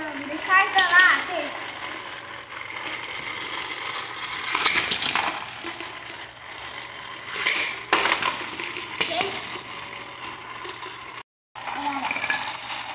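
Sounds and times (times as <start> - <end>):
toy cars clattering on plastic track: 0.0 - 12.9.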